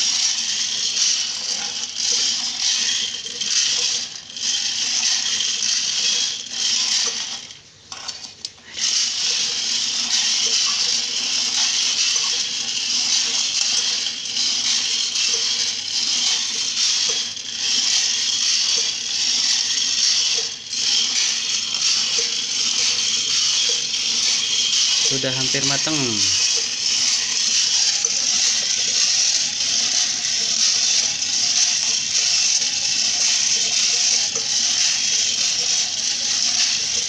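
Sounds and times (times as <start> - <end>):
coffee beans rattling in a drum: 0.0 - 37.0.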